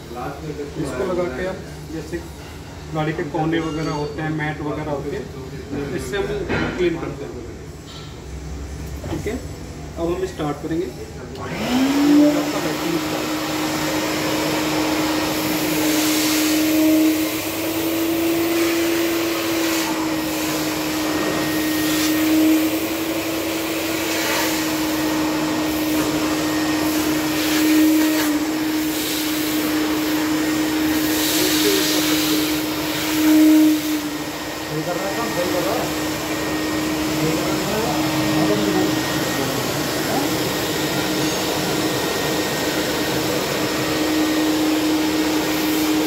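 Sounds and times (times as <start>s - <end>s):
vacuum cleaner motor whine and hum: 0.0s - 3.6s, 10.0s - 46.0s.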